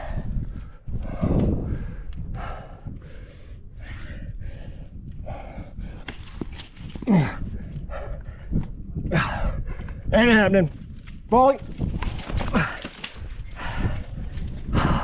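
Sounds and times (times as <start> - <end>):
person breathing hard: 0.0 - 10.1, 12.6 - 15.0.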